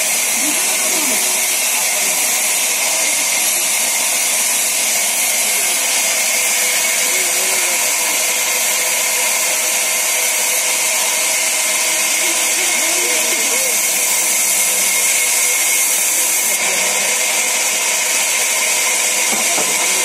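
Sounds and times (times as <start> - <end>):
band saw cutting a plank: 0.0 - 20.0.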